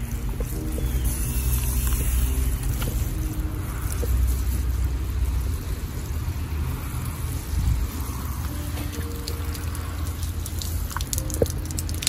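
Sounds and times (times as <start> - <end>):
steady low rumble: 0.0 - 12.0
water spraying on gravel: 0.0 - 12.0.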